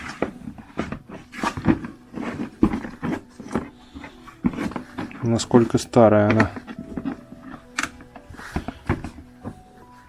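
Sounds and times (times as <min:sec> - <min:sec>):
bag rustling and knocking: 0:00.0 - 0:10.0.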